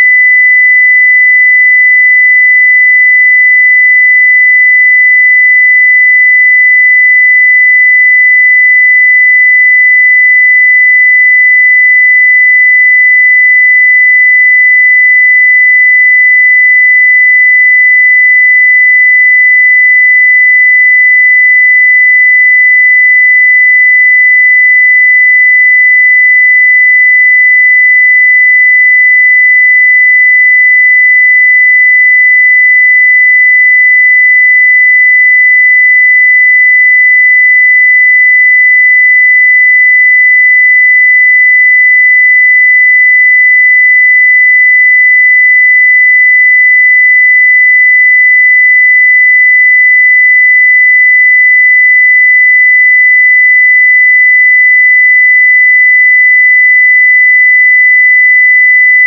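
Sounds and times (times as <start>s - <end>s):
sine wave test tone: 0.0s - 59.0s.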